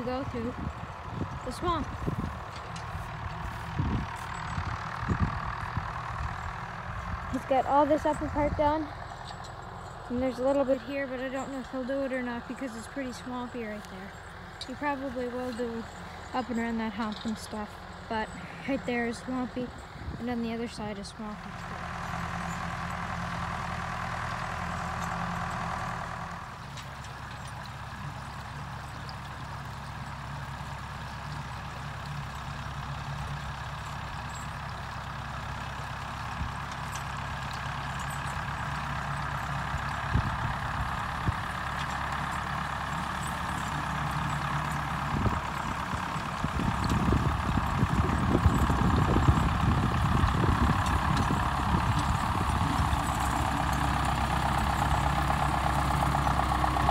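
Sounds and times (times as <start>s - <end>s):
rotary mower: 0.0s - 56.9s
tractor engine running: 0.0s - 56.9s.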